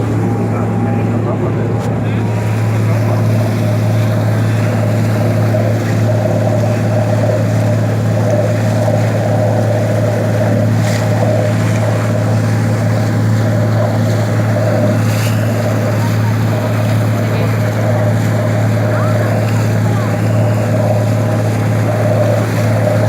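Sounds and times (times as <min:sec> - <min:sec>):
boat engine droning: 0:00.0 - 0:23.0
wind: 0:00.0 - 0:23.0.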